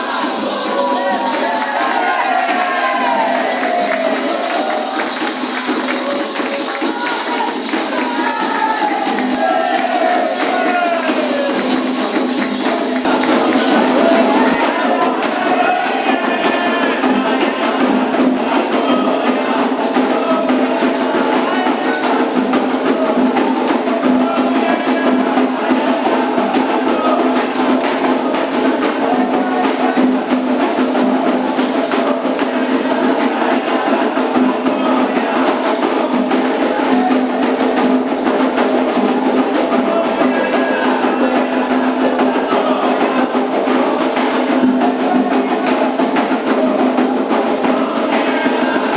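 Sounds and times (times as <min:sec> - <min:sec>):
hand drums playing fast rhythm: 0:00.0 - 0:48.9
voices singing: 0:00.0 - 0:48.9.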